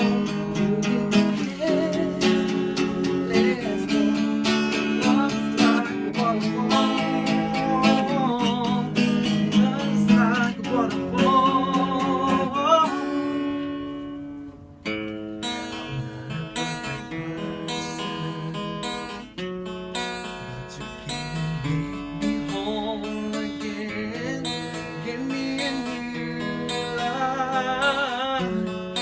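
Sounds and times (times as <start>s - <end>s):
acoustic guitar strummed and picked: 0.0s - 29.0s.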